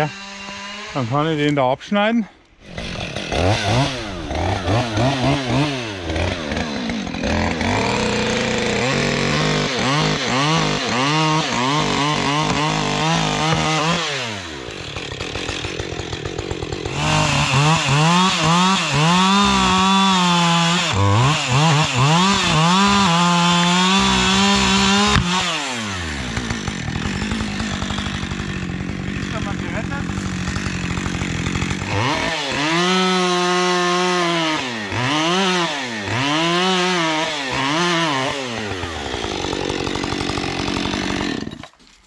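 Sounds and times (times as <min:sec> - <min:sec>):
chainsaw cutting wood: 0:00.0 - 0:01.5, 0:02.5 - 0:42.0
chainsaw idling: 0:00.0 - 0:01.5, 0:02.4 - 0:42.0.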